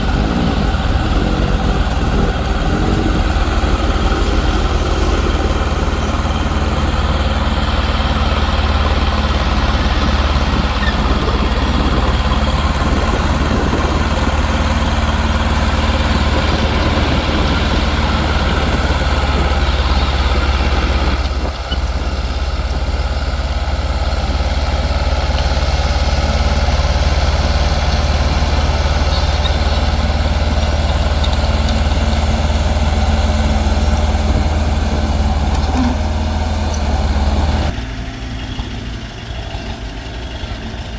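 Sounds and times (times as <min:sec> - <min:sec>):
diesel machinery engine drone: 0:00.0 - 0:40.9.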